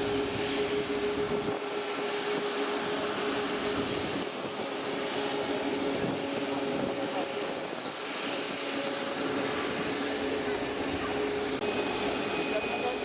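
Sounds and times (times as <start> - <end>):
jet engines rushing hiss: 0.0 - 13.0.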